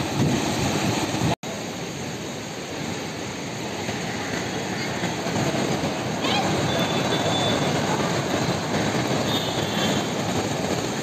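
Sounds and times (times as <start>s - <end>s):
floodwater rushing in river: 0.0s - 11.0s.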